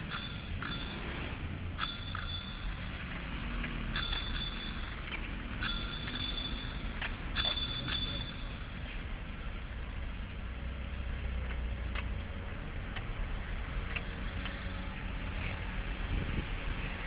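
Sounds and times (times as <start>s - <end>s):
road noise with low rumble: 0.0s - 17.0s.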